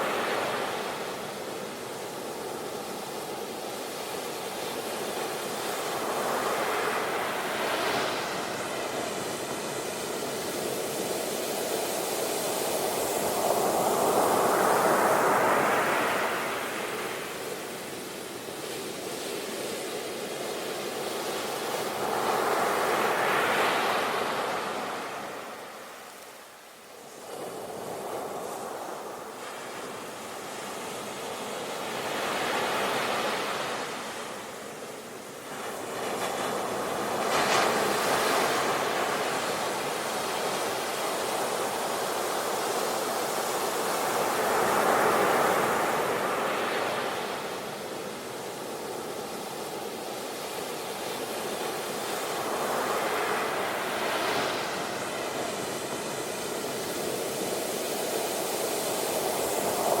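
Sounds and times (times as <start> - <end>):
sea waves breaking on shore: 0.0 - 60.0.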